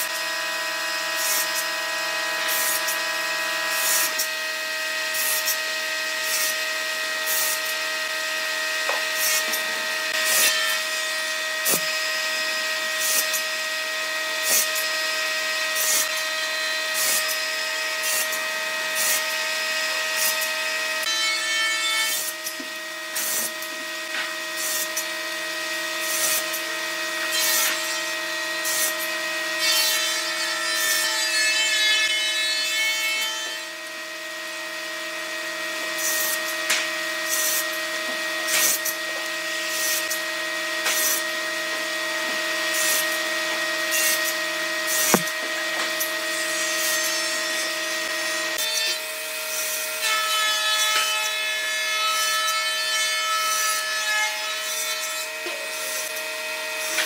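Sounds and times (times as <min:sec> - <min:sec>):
saw cutting wood blocks: 0:00.0 - 0:57.0
table saw whining: 0:00.0 - 0:57.0.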